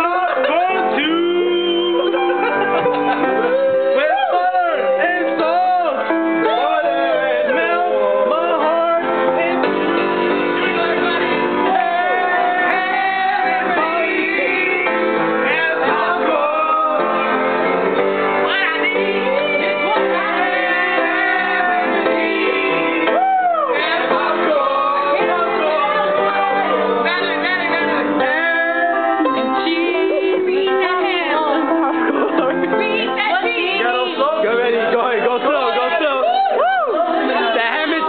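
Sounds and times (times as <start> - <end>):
instrumental accompaniment: 0.0 - 38.0
voices singing: 0.0 - 38.0.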